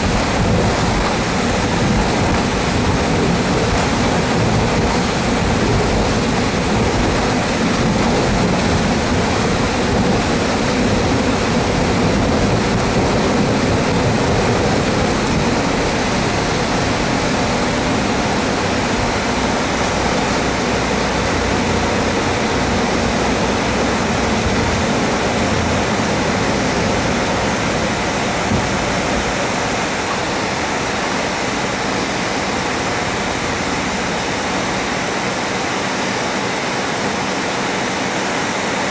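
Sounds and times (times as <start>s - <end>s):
wheels rumbling on runway: 0.0s - 37.9s
jet engines at takeoff thrust: 0.0s - 38.9s.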